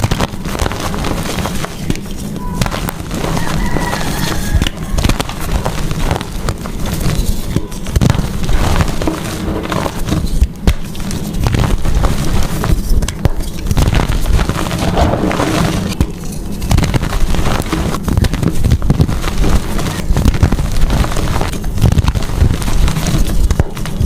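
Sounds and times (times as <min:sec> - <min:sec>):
chalk being crushed: 0:00.0 - 0:24.0.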